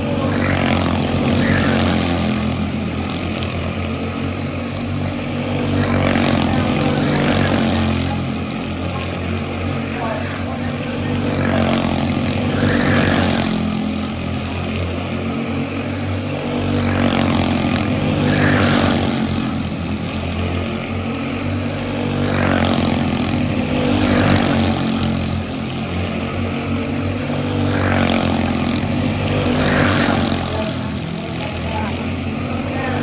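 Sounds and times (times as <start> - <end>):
go-kart engines buzzing: 0.0 - 33.0.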